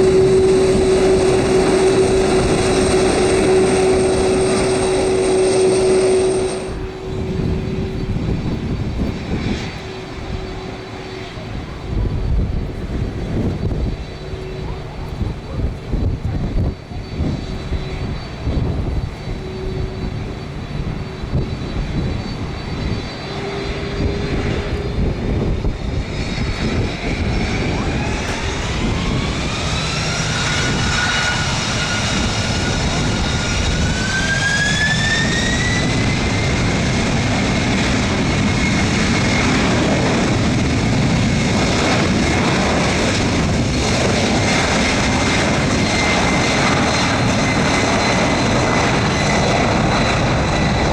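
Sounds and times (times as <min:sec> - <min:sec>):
jet engines spooling up: 0:00.0 - 0:50.9
steady rumble: 0:00.0 - 0:50.9.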